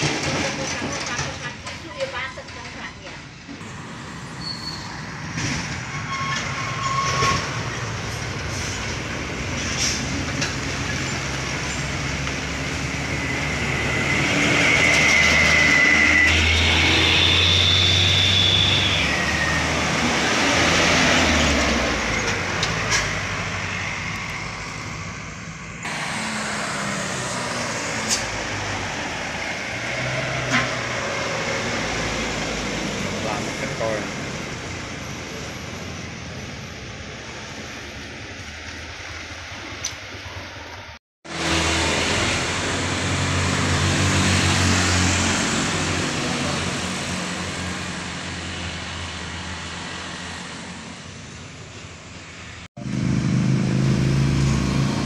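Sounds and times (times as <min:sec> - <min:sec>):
vehicles driving past: 0:00.0 - 0:55.0.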